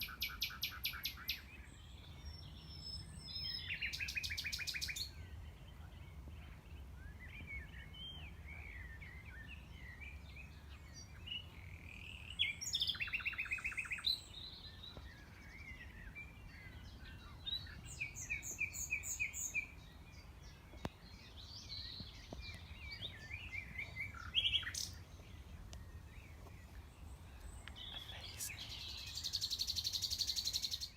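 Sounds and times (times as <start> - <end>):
nightingale singing: 0.0 - 5.4, 7.0 - 30.9.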